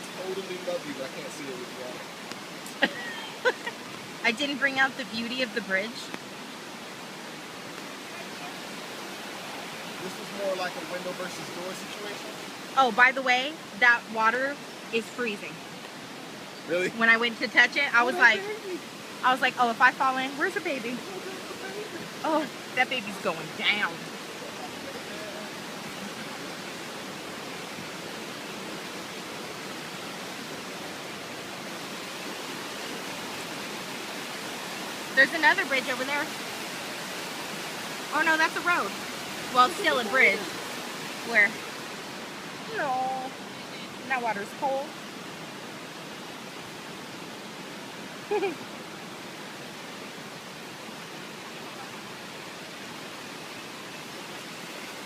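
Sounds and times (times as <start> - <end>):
fast-flowing river water: 0.0 - 55.0.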